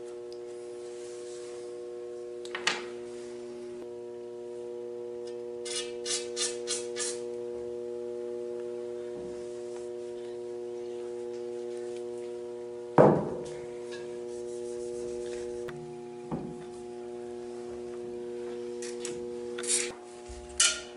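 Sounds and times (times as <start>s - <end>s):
steady multi-tone hum: 0.0s - 20.9s.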